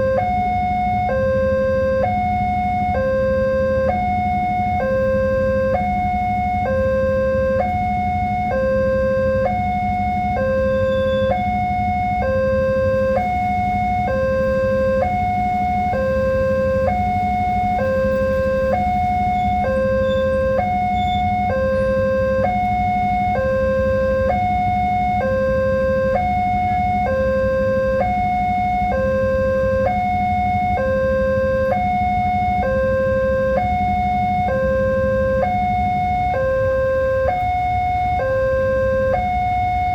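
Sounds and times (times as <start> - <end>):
level crossing alarm two-tone: 0.0 - 39.9.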